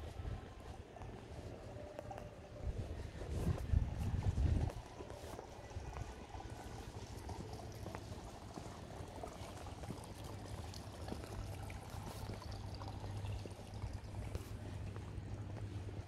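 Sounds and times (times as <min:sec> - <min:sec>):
pool water trickling: 0:00.1 - 0:16.0.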